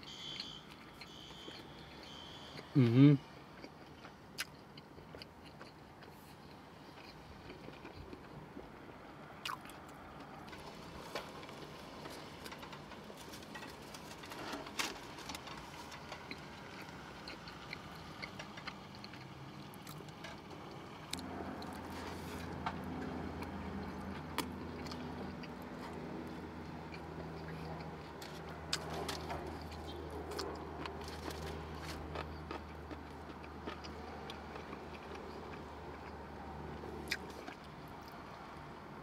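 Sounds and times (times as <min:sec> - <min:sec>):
person chewing and mouth-smacking: 0:00.2 - 0:08.5, 0:09.4 - 0:10.5, 0:15.9 - 0:38.2.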